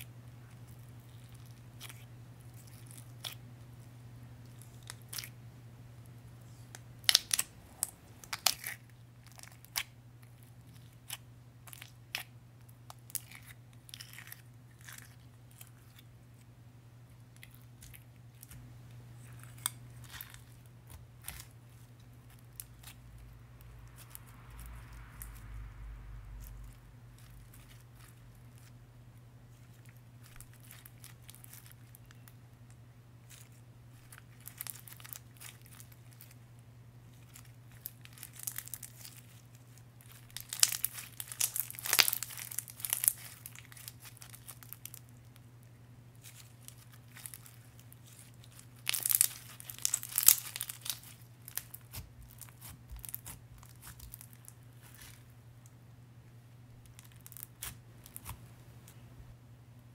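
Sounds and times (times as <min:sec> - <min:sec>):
slime crackling and crinkling: 0:00.0 - 0:05.4, 0:06.4 - 0:16.5, 0:17.1 - 0:28.8, 0:29.4 - 0:45.5, 0:46.1 - 0:55.7, 0:56.8 - 0:59.0
low steady hum: 0:00.0 - 0:59.9.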